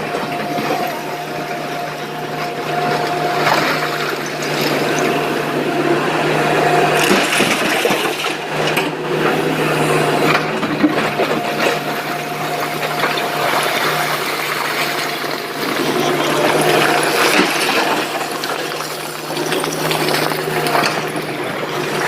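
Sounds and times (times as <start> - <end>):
diesel engine running under load: 0.0 - 22.0
hydraulic whine: 0.0 - 22.0.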